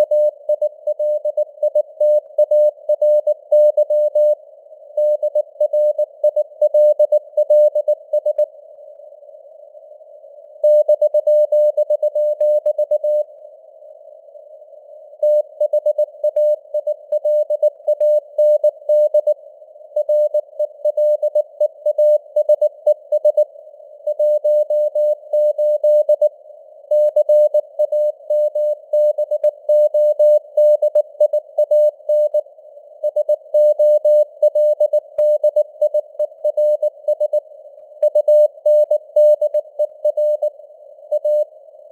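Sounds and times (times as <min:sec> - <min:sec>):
receiver noise hiss: 0:00.0 - 0:41.9.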